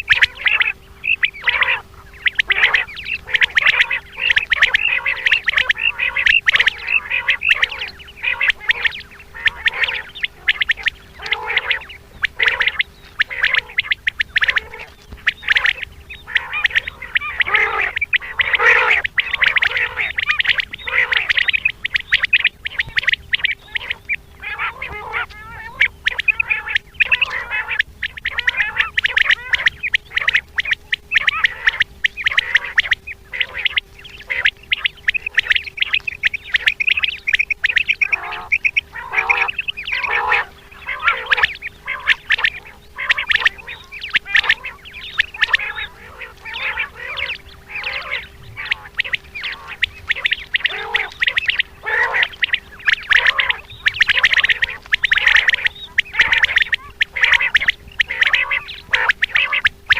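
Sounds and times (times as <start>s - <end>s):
faint steady hum: 0.0s - 59.9s
quail calling: 0.0s - 59.9s.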